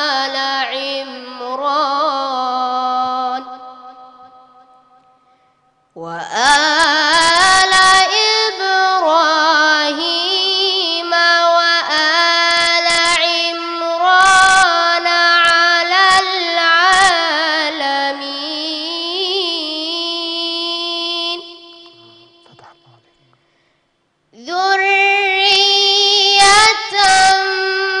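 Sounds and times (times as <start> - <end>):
boy reciting melodically: 0.0 - 4.3, 6.0 - 23.0, 24.4 - 28.0.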